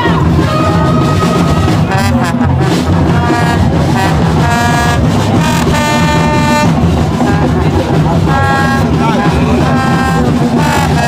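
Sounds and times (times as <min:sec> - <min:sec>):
horns blowing long notes: 0:00.0 - 0:11.0
low rumble: 0:00.0 - 0:11.0.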